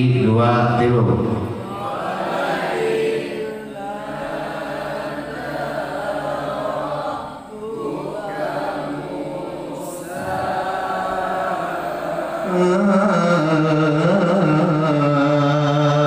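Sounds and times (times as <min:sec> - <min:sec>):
boys chanting together: 0:00.7 - 0:16.0.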